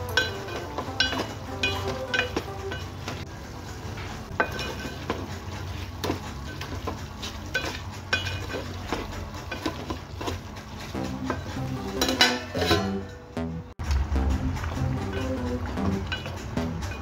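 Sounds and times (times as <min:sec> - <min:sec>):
metal spoon scraping a pot: 0:00.0 - 0:03.3, 0:03.9 - 0:13.3, 0:14.9 - 0:17.0
frying sizzle: 0:00.0 - 0:17.0.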